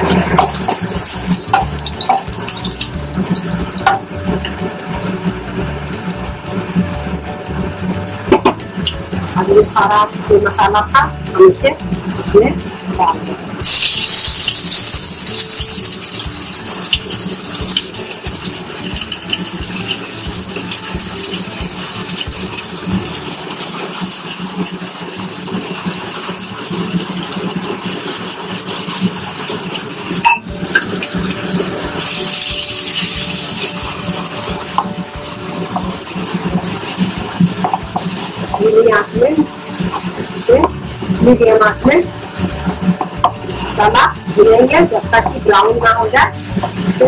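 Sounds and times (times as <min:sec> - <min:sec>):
paste sizzling in hot oil: 0:00.0 - 0:47.0.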